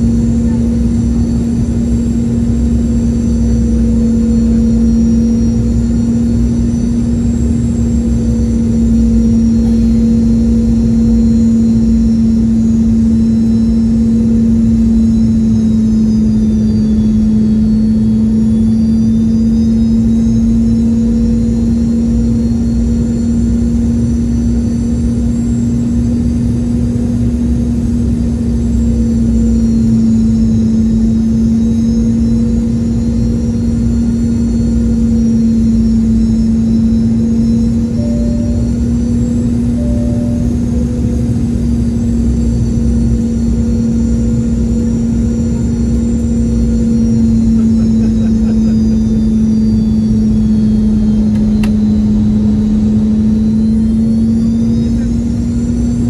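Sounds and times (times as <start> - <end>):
airliner cabin drone: 0.0 - 56.0
jet engine whine: 0.0 - 56.0.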